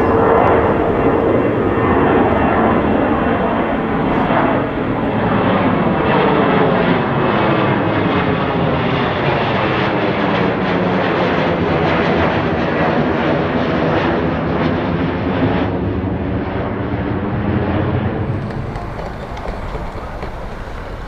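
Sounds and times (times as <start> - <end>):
jet airliner engines passing: 0.0 - 21.0.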